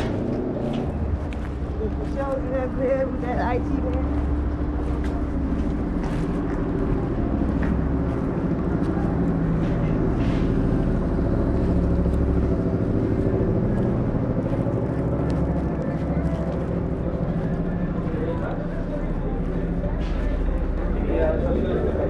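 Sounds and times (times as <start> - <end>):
street traffic hum: 0.0 - 22.0.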